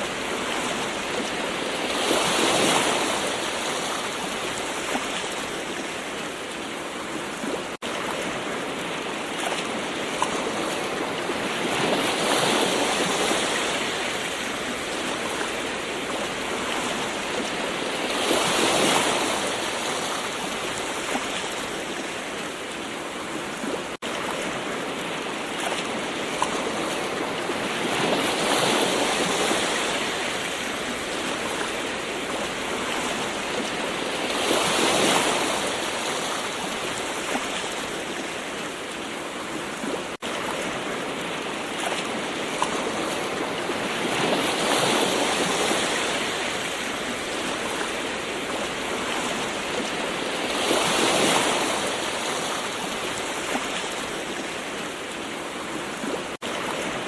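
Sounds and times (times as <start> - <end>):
gentle ocean waves: 0.0 - 57.0.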